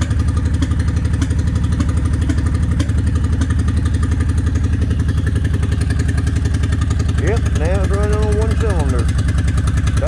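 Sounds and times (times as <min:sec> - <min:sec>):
motorcycle engine idling unevenly: 0:00.0 - 0:10.0.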